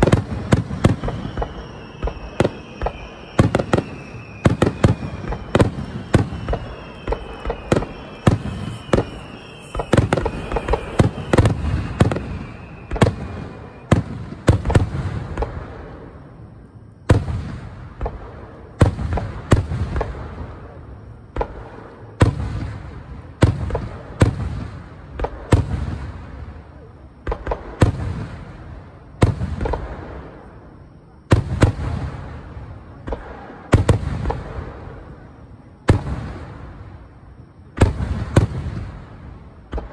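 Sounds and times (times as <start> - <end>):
firework whistling: 0.0 - 39.9
fireworks bursting with bangs: 0.0 - 39.9.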